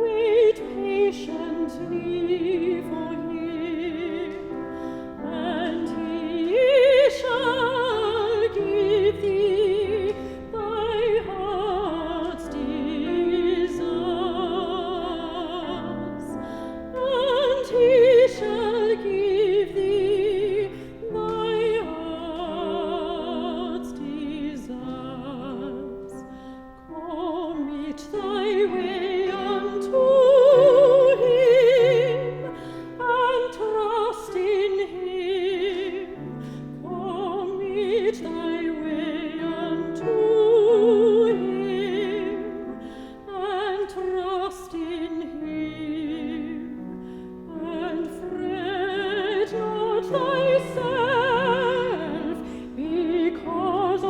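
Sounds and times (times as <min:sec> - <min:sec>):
classical singer with vibrato: 0:00.0 - 0:54.0.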